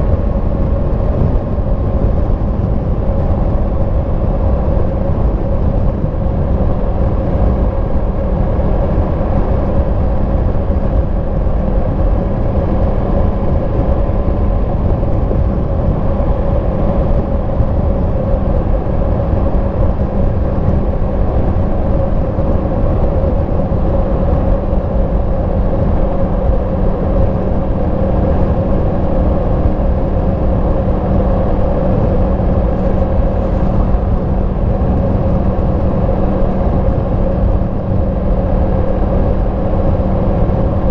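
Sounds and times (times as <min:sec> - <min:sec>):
constant rushing noise: 0:00.0 - 0:40.9.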